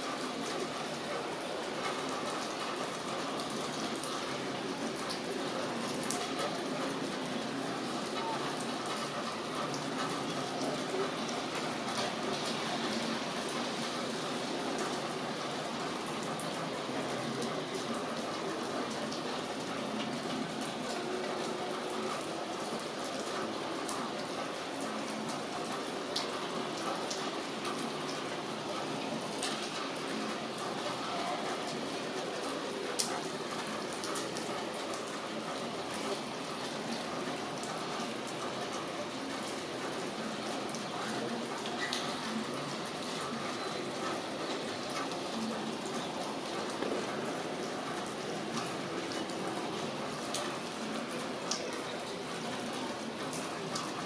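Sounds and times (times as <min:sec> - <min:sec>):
rain falling: 0:00.0 - 0:54.0
raindrops striking close by: 0:00.0 - 0:54.0.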